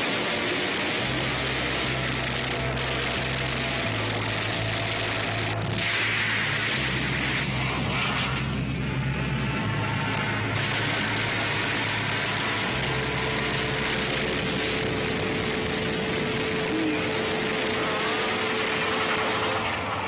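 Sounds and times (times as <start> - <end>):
aircraft engines roaring: 0.0 - 20.0
steady hum: 0.0 - 20.0.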